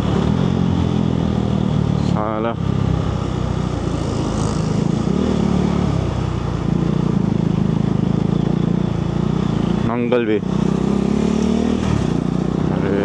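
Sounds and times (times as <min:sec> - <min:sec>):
motorcycle engine running: 0:00.0 - 0:13.0
road and air noise: 0:00.0 - 0:13.0.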